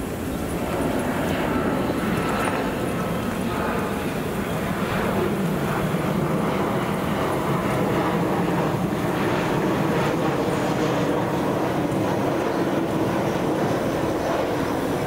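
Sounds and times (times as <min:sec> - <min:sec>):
airplane flying low overhead: 0:00.0 - 0:15.0.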